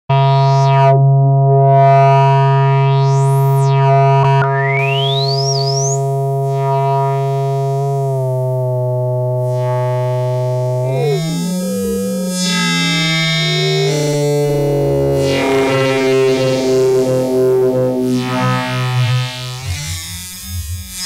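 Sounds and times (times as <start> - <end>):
synthesizer low drone: 0.2 - 21.0.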